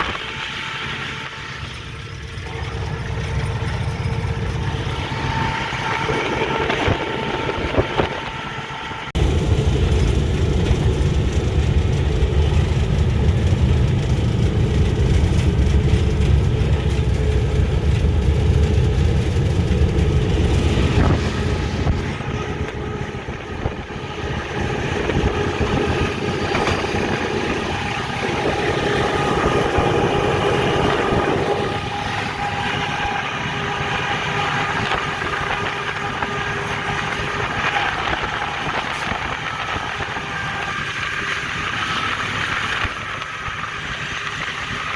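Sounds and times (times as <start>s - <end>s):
locomotive engine rumble: 0.0s - 44.9s
train rolling noise: 0.0s - 44.9s.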